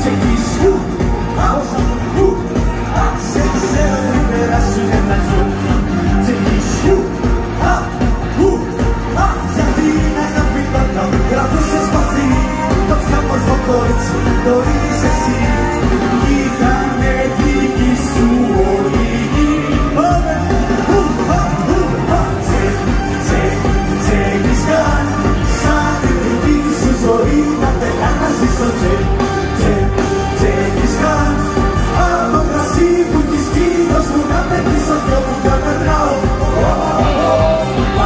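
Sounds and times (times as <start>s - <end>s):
live band with singer: 0.0s - 38.0s.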